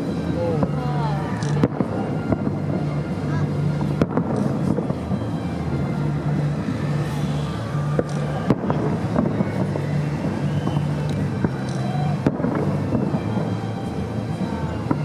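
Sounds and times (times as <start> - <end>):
fireworks bangs: 0.0 - 15.0
murmur of background noise: 0.0 - 15.0
steady low hum: 0.0 - 15.0.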